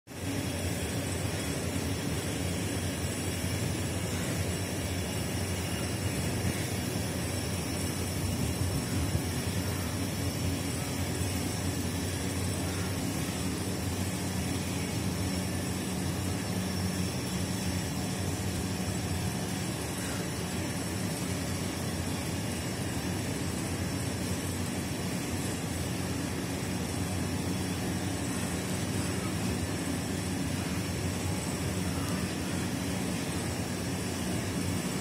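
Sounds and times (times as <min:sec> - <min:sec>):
mechanical drone with low hum: 0:00.1 - 0:35.0.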